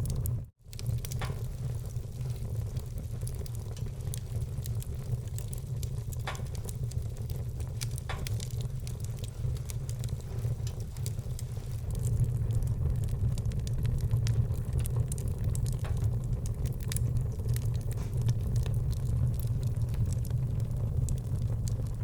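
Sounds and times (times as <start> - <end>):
steady low rumble: 0.0 - 22.0
wood fire crackling and popping: 0.0 - 22.0.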